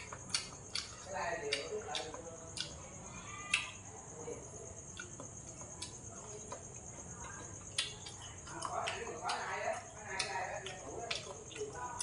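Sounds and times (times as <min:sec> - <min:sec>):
chopsticks clicking on bowl: 0:00.0 - 0:02.8, 0:04.9 - 0:12.0
insect chirring: 0:00.0 - 0:12.0
soft chewing: 0:00.0 - 0:12.0.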